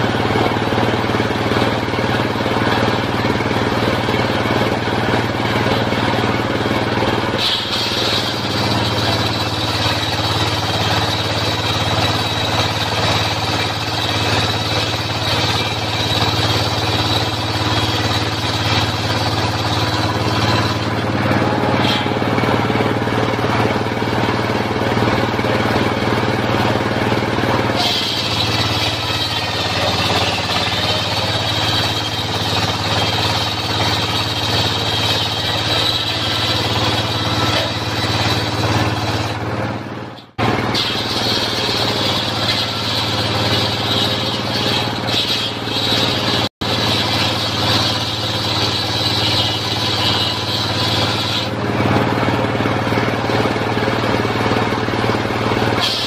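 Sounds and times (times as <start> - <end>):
sawmill engine running: 0.0 - 56.0
saw blade cutting wood: 7.0 - 39.4, 40.1 - 52.4, 55.7 - 56.0.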